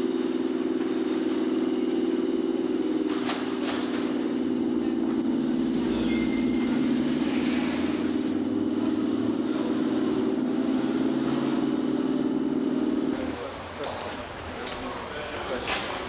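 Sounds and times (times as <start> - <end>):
passenger train moving: 0.0 - 16.0
steady low hum: 0.0 - 16.0.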